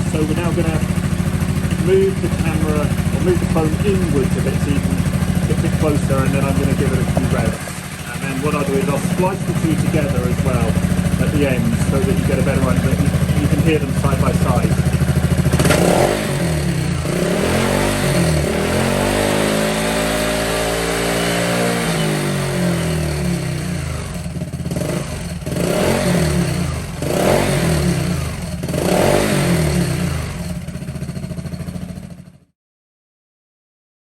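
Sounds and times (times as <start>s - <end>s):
scooter engine idling and revving: 0.0s - 32.5s.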